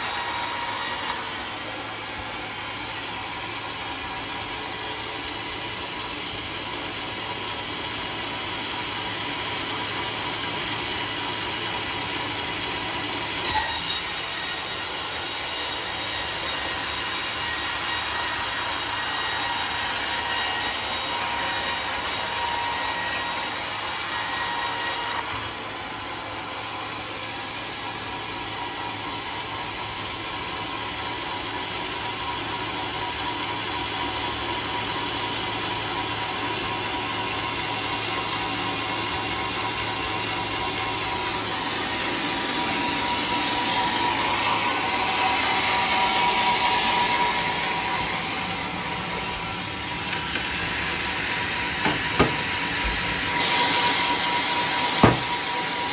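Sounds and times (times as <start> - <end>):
band saw cutting log: 0.0 - 55.9
band sawmill running: 0.0 - 55.9.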